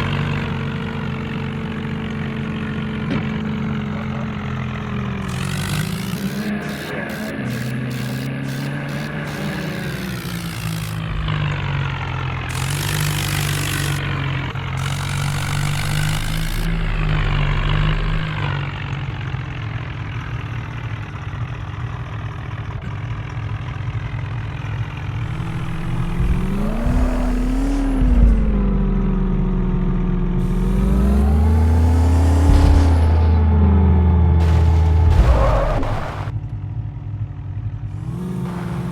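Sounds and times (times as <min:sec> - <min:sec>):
vehicle engine revving: 0:00.0 - 0:21.3, 0:24.2 - 0:36.5, 0:37.8 - 0:38.9.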